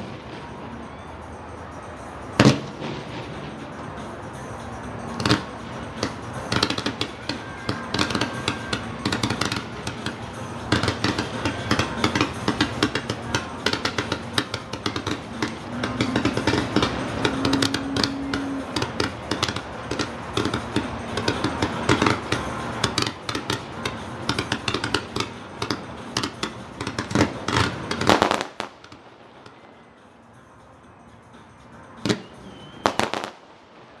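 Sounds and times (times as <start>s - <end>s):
fireworks crackling and banging: 0.0s - 30.4s, 31.8s - 34.0s.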